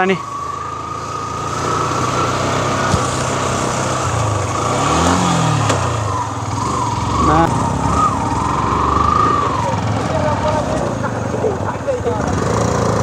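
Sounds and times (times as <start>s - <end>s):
steady high whine: 0.0s - 11.1s
motorcycle engine running: 0.0s - 13.0s.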